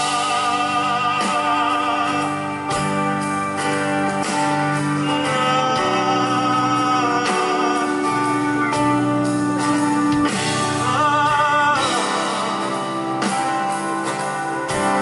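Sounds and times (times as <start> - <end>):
person singing long notes: 0.0 - 2.9, 4.7 - 15.0
live band music: 0.0 - 15.0.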